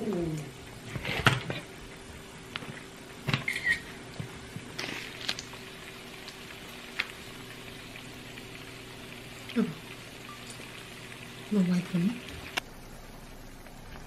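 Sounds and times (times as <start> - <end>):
eggs sizzling in a pan: 0.0 - 14.0.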